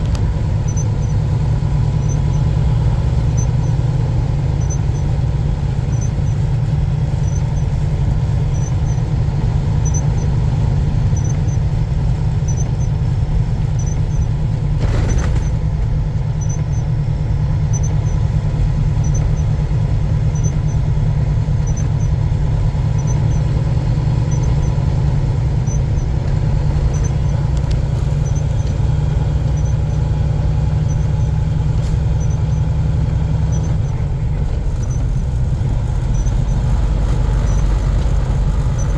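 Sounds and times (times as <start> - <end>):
truck engine drone and road noise: 0.0 - 38.9.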